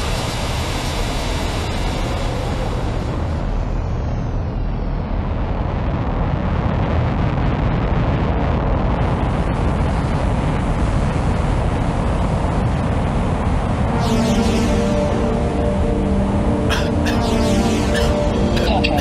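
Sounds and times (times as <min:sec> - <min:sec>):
deep ambient rumbling: 0:00.0 - 0:19.0.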